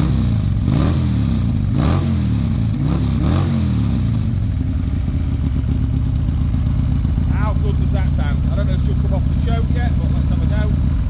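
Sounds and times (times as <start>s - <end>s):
motorcycle engine revving and idling: 0.0s - 11.0s.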